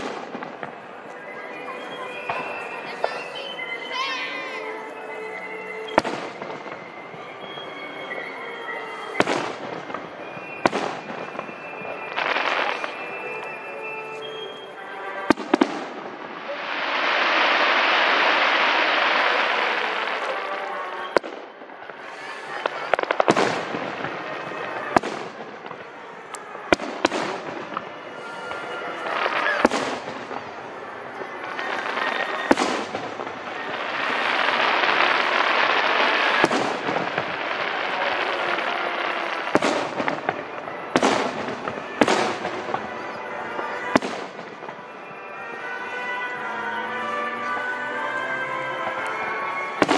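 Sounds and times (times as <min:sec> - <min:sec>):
dense fireworks noise: 0:00.0 - 0:49.9.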